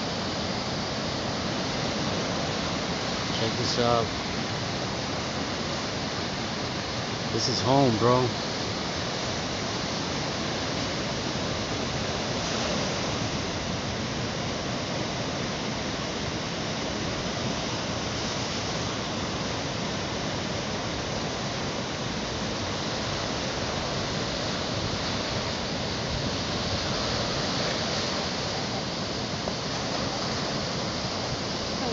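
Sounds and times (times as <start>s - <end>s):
surf breaking on beach: 0.0s - 31.9s.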